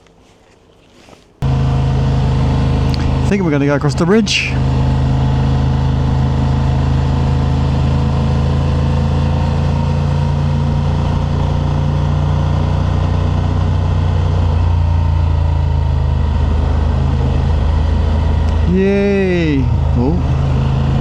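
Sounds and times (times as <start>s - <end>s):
road noise: 0.0s - 21.0s
motorcycle engine running: 1.4s - 21.0s.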